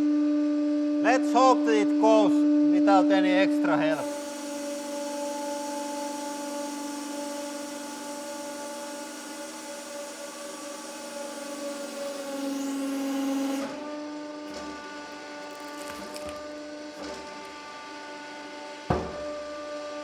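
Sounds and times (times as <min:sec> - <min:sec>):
hydraulic press motor whining: 0:04.0 - 0:20.0.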